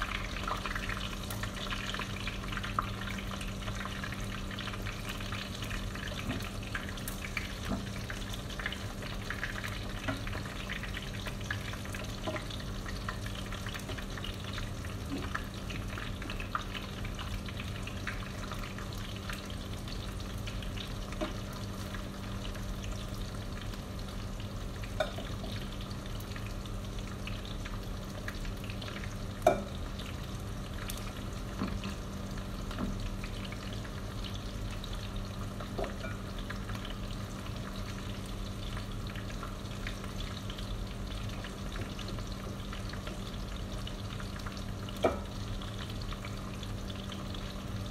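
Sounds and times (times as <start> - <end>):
meat sizzling in oil: 0.0 - 47.9.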